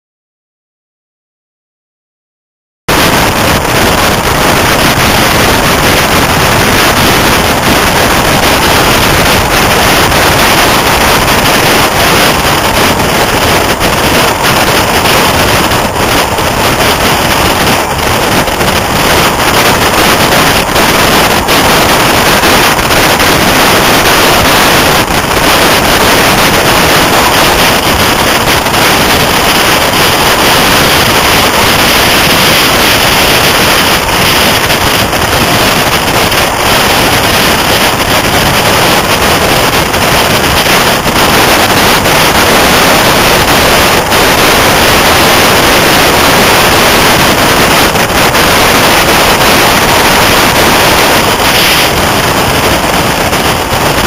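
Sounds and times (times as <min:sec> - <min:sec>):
heavy wind roar on microphone: 0:02.9 - 0:54.0
train rushing running noise: 0:02.9 - 0:54.0.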